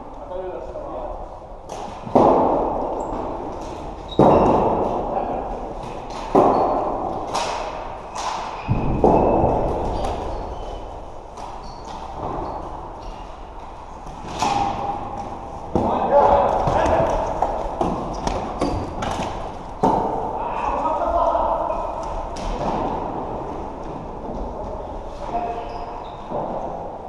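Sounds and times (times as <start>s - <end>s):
loud bangs echoing in a hall: 0.0s - 27.0s.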